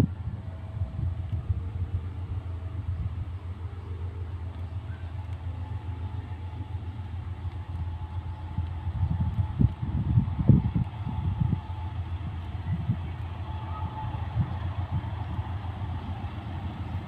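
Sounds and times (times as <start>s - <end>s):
faint steady whine: 0.0s - 17.0s
locomotive rumble: 0.0s - 17.0s.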